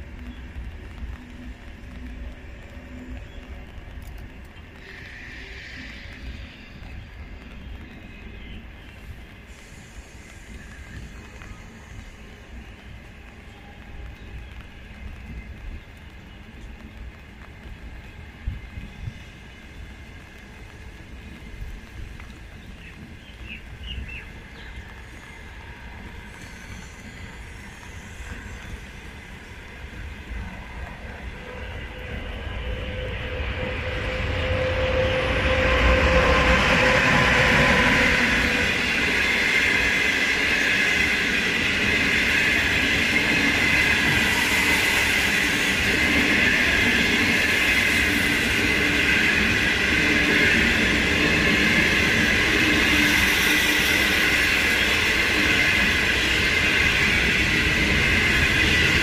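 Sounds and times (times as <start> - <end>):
locomotive whine: 0.0 - 59.0
train wheels rumbling and clattering: 0.0 - 59.0.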